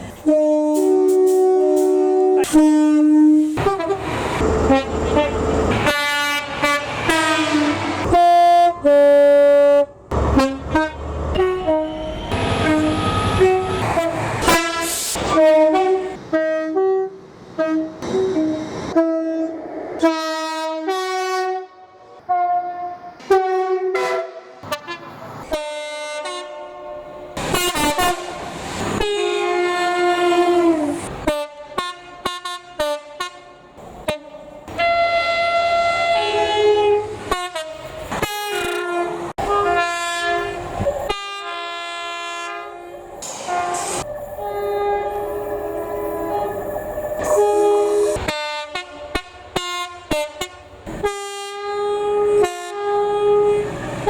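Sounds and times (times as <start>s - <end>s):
train horn playing a tune: 0.2s - 4.0s, 4.6s - 28.4s, 29.0s - 53.9s.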